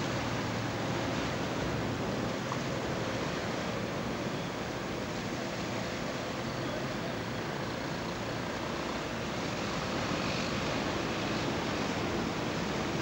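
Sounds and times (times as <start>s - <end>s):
outboard motors droning: 0.0s - 13.0s.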